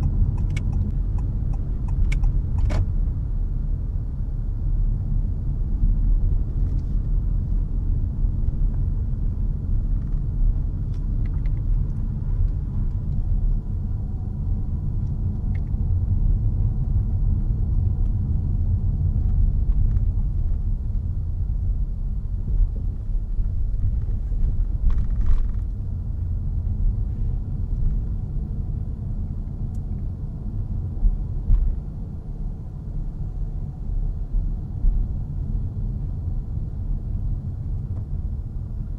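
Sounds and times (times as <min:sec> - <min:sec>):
road and tyre rumble in car: 0:00.0 - 0:38.9.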